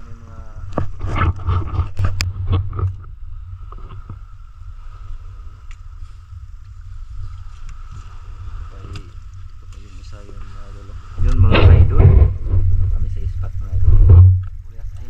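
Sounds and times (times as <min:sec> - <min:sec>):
boat engine rumble: 0:00.0 - 0:15.0
faint whine: 0:00.0 - 0:15.0.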